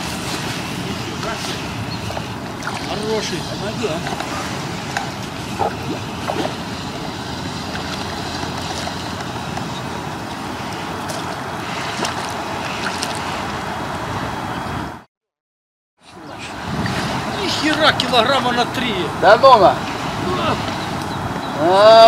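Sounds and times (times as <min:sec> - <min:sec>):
wind buffeting microphone: 0:00.0 - 0:15.0, 0:16.2 - 0:22.0.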